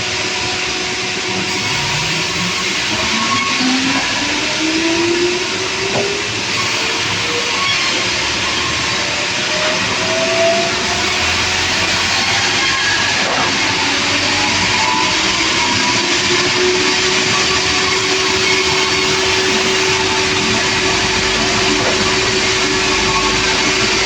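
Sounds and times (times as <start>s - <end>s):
engine-driven saw cutting timber: 0.0s - 24.0s.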